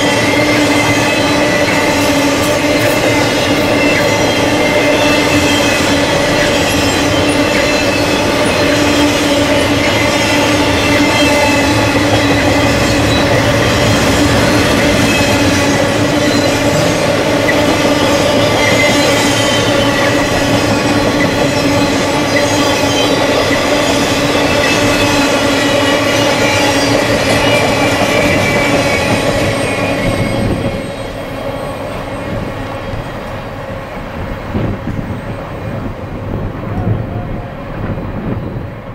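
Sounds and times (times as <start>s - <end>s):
train wheels squealing on rails: 0.0s - 34.0s, 36.7s - 38.9s
rumble and clatter of train cars: 0.0s - 38.9s.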